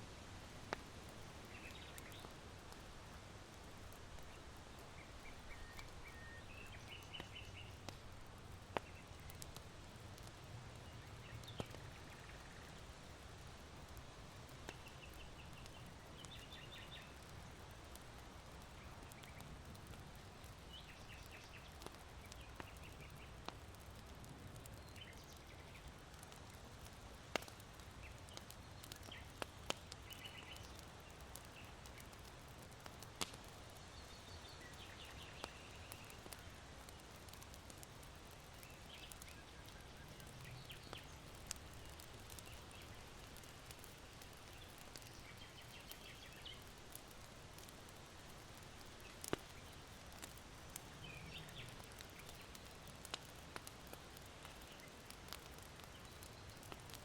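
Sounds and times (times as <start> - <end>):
charcoal fire popping: 0.0 - 57.0.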